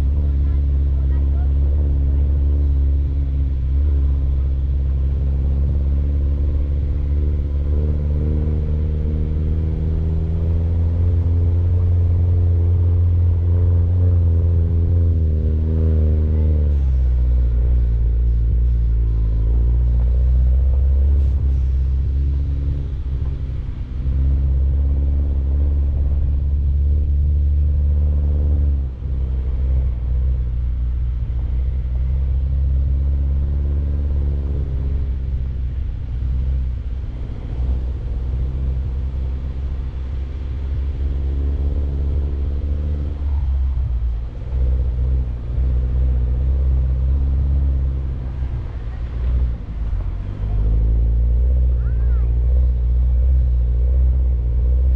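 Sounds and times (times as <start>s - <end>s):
car engine over rough ground: 0.0s - 54.9s.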